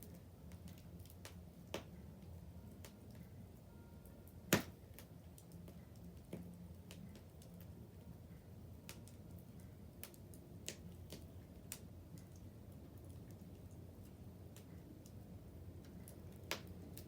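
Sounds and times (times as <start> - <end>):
bonfire crackling: 0.0 - 17.0
low steady hum: 0.0 - 17.0.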